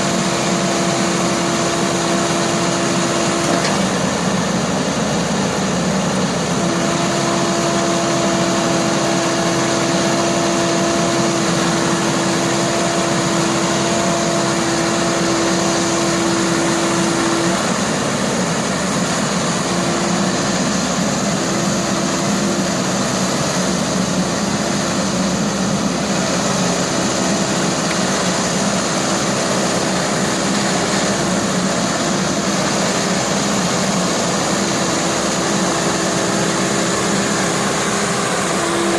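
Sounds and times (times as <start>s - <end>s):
excavator diesel engine running: 0.0s - 38.9s
engine whine: 0.2s - 38.9s.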